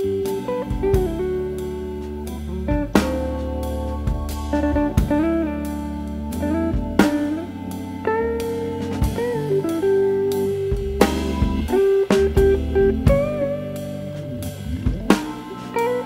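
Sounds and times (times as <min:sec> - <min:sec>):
sliding guitar notes: 0:00.0 - 0:16.0
steady drum beat: 0:00.0 - 0:16.0.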